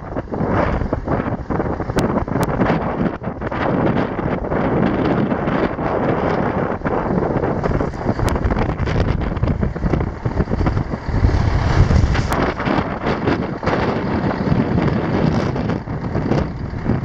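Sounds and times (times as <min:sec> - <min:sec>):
diesel truck engine running: 0:00.0 - 0:17.0
wind buffeting microphone: 0:00.0 - 0:17.0.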